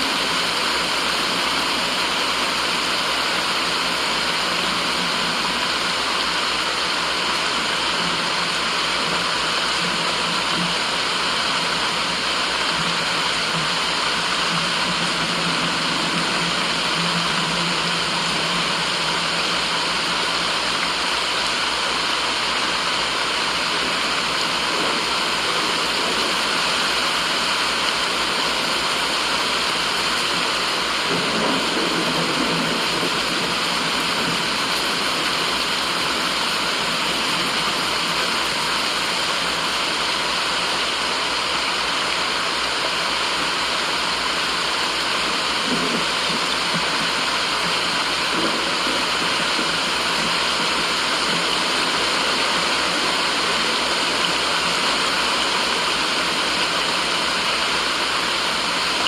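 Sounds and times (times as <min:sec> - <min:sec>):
rushing water-like white noise: 0:00.0 - 0:59.0.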